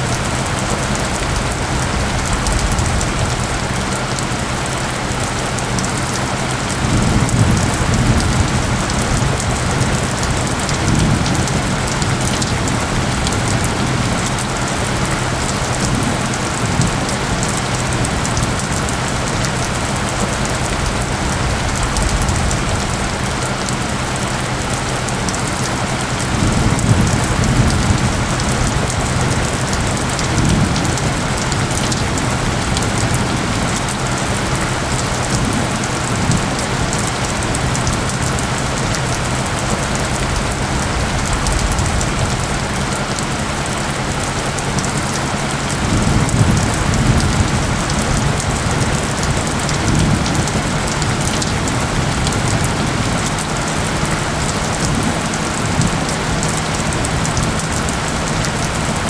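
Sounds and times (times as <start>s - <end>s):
low humming tones: 0.0s - 59.0s
low rumbles: 0.0s - 59.0s
rain hiss: 0.0s - 59.0s.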